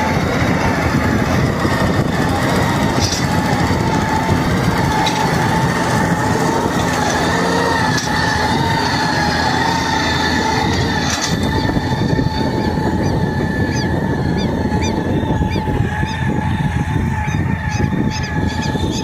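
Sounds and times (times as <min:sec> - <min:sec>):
high wavering whine: 0:00.0 - 0:19.0
tractor diesel engine running: 0:00.0 - 0:19.0.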